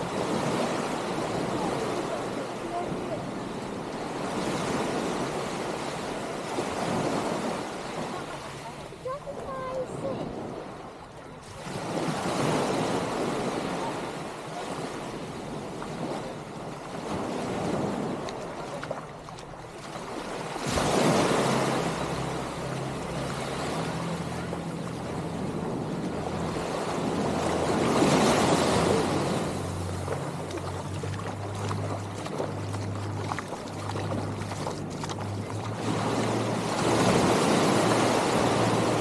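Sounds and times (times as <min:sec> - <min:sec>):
small waves breaking on beach: 0:00.0 - 0:39.0.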